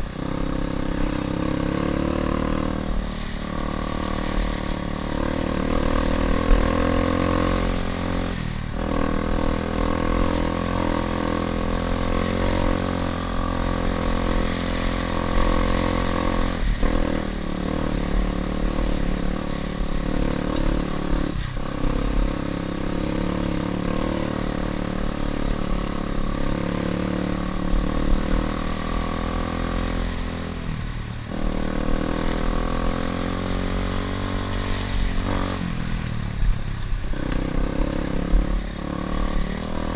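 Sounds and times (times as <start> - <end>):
dirt bike engine being ridden: 0.0 - 39.9.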